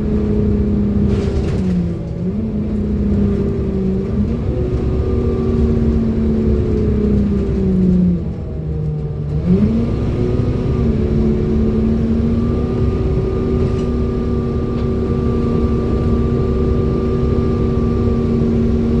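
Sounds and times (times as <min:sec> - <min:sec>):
bus engine whining: 0:00.0 - 0:19.0.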